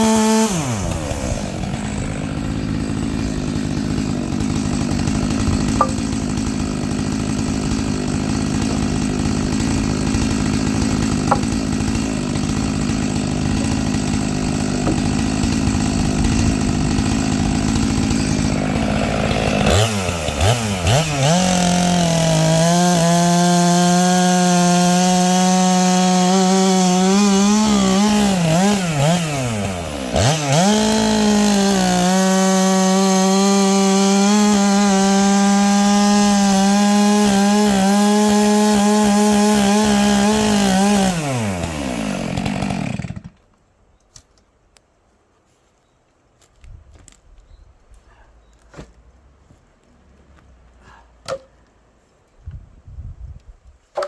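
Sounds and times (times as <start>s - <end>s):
chainsaw cutting wood: 0.0s - 43.5s.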